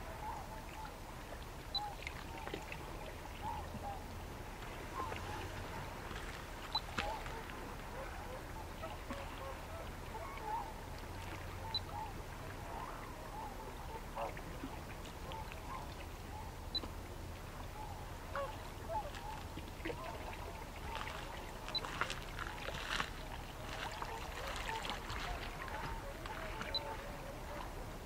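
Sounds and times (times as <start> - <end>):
distant waterfowl calling: 1.7 - 4.2, 4.8 - 28.0.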